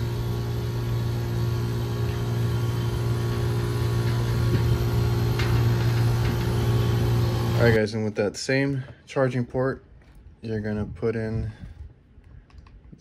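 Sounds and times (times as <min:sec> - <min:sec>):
air conditioner humming: 0:00.0 - 0:12.5.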